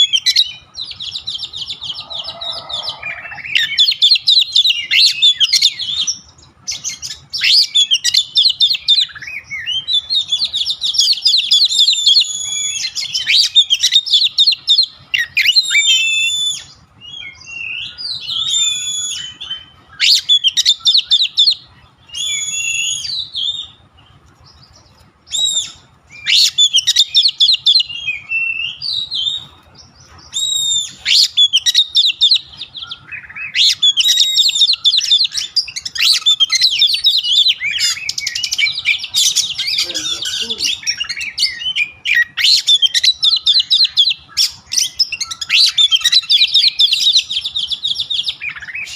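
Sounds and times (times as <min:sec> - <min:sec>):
bird singing trills and whistles: 0:00.0 - 0:48.9.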